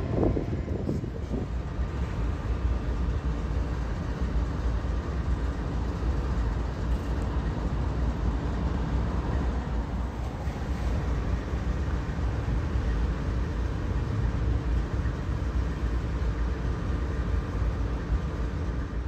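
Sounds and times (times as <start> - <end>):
diesel locomotive engine rumble: 0.0 - 19.0
rail and wheel noise: 0.0 - 19.0.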